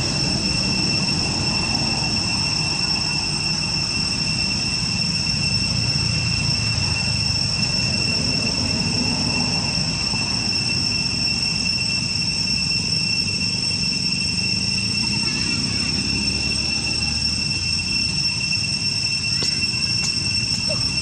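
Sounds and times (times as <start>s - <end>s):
cicadas droning: 0.0s - 21.0s.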